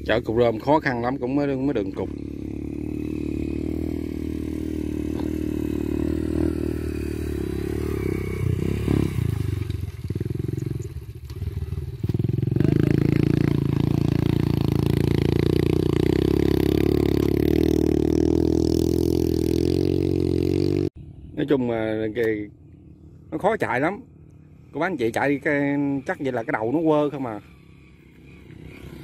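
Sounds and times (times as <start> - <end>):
small motorcycle engine running: 0.0 - 21.2, 24.3 - 29.0.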